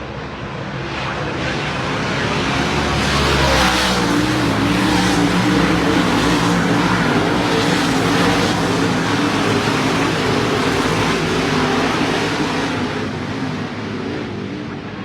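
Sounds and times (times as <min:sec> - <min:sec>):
race car engines racing: 0:00.0 - 0:15.0.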